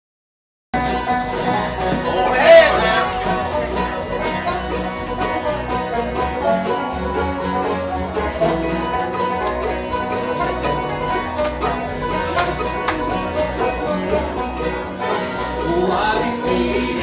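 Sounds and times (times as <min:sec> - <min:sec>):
pulsing bass beat: 0:00.8 - 0:15.0
plucked string notes: 0:00.8 - 0:17.0.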